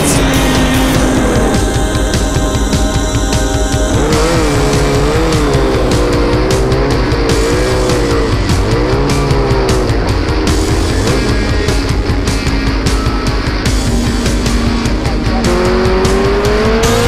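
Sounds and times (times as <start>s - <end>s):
rock music: 0.0s - 17.0s
snowmobile engine revving: 0.0s - 17.0s.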